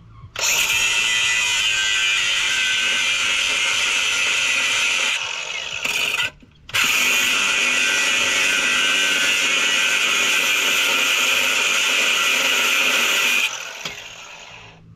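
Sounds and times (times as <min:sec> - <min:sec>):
grinder cutting metal: 0:00.4 - 0:14.8.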